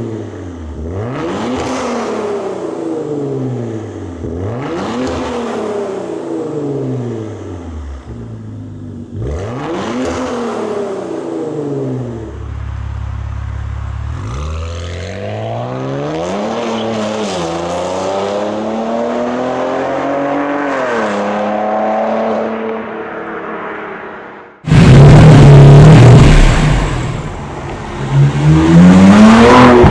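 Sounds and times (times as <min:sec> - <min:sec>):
car engine revving and accelerating: 0:00.8 - 0:07.4, 0:09.2 - 0:12.3, 0:14.1 - 0:23.8, 0:24.7 - 0:29.9.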